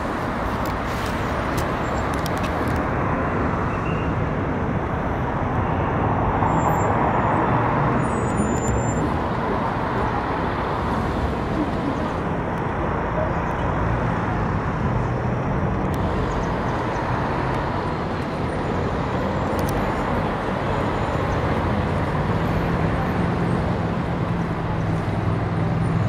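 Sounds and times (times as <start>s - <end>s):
city road traffic: 0.0s - 26.0s.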